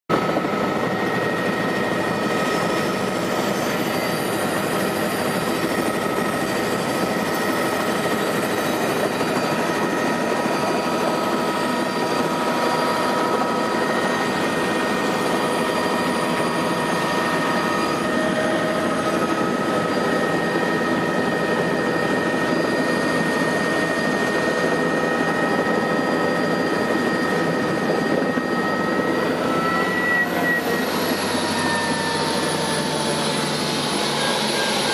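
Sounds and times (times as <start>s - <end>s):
helicopter engine and rotor: 0.0s - 34.9s
high turbine whine: 0.1s - 34.9s.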